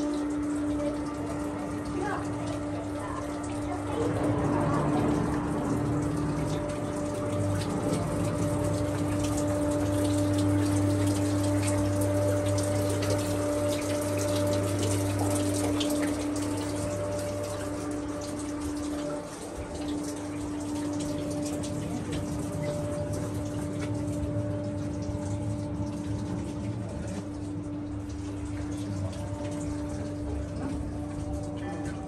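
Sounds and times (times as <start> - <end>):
running splashing water: 0.0 - 32.0
steady hum: 0.0 - 32.0.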